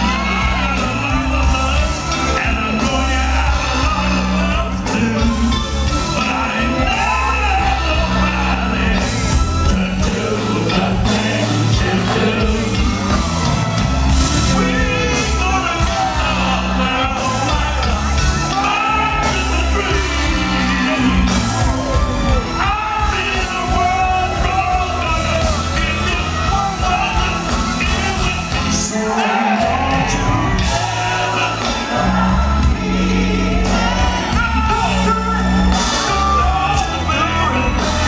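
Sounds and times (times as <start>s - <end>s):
man singing soul ballad: 0.0s - 13.3s, 14.3s - 35.4s, 36.0s - 38.0s
band with keyboards and bass: 0.0s - 38.0s.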